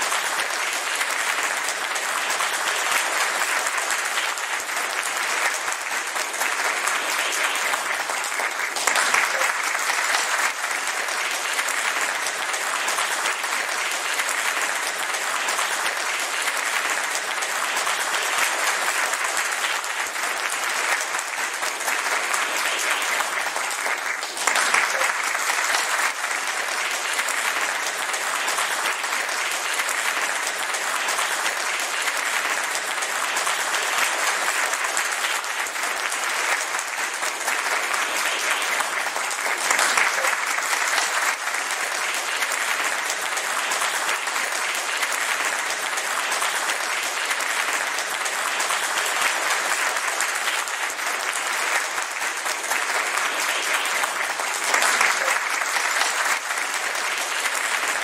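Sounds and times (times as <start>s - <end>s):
audience applauding: 0.0s - 58.0s.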